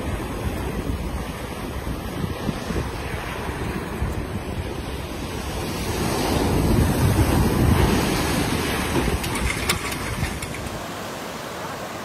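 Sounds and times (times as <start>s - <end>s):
wind buffeting microphone: 0.0s - 11.9s
surf breaking on beach: 0.0s - 12.0s.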